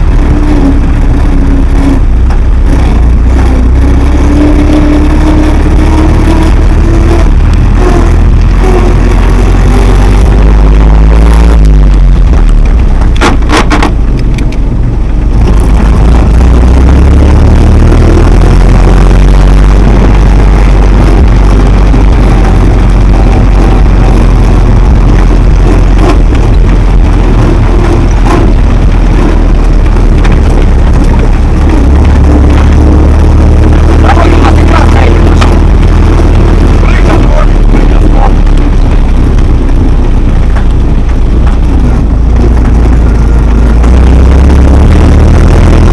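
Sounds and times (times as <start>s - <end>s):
jeep engine running loudly: 0.0s - 45.9s.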